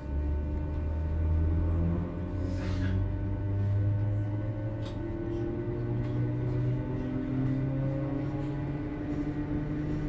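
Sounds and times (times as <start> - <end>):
electric train motor hum: 0.0 - 10.0.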